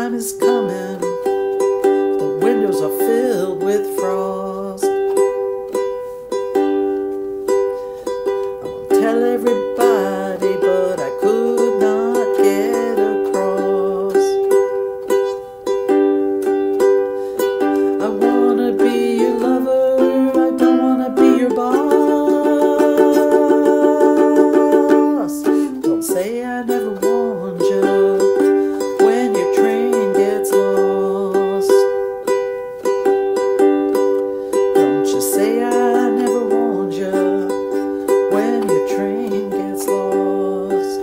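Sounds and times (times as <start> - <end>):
ukulele strummed and picked: 0.0 - 41.0.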